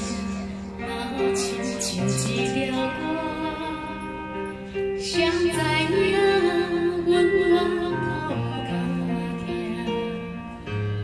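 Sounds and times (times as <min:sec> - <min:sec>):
woman singing into microphone: 0:00.0 - 0:10.6
karaoke backing music: 0:00.0 - 0:11.0.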